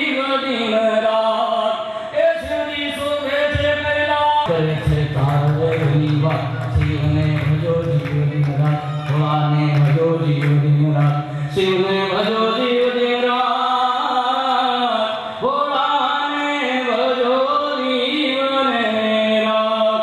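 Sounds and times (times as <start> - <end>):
man chanting through microphone: 0.0 - 20.0.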